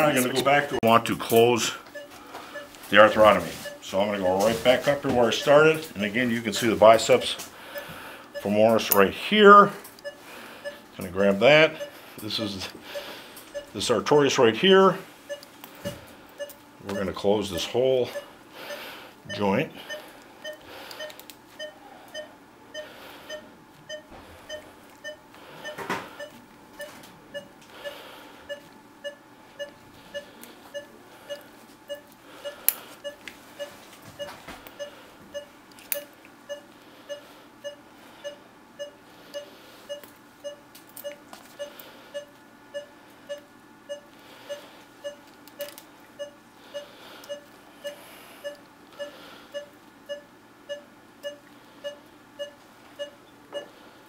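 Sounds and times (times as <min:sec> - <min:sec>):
monitor beeping: 0:00.0 - 0:14.2, 0:15.3 - 0:15.5, 0:16.4 - 0:53.7.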